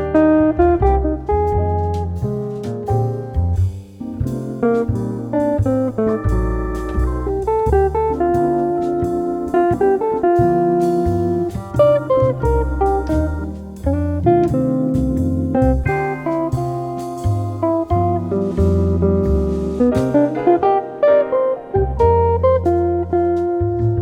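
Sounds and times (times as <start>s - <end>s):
cafe jazz with plucked guitar: 0.0s - 24.0s.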